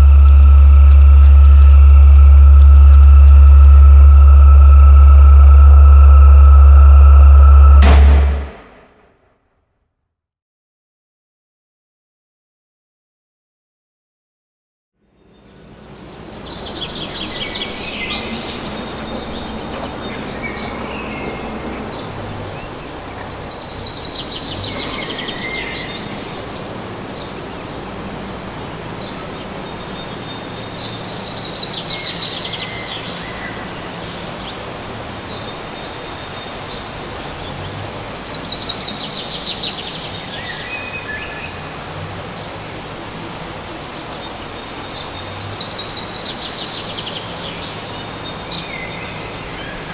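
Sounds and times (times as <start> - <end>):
urban outdoor hum: 0.0 - 8.9, 15.2 - 49.9.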